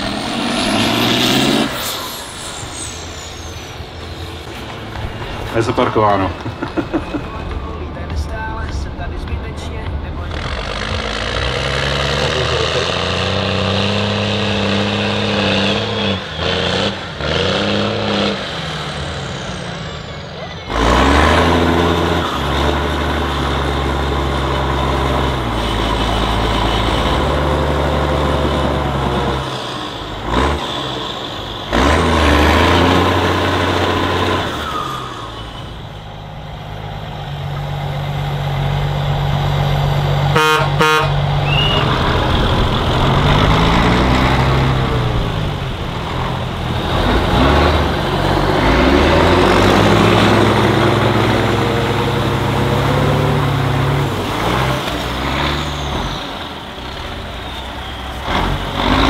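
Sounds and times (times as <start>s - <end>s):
truck engines revving: 0.0s - 59.0s.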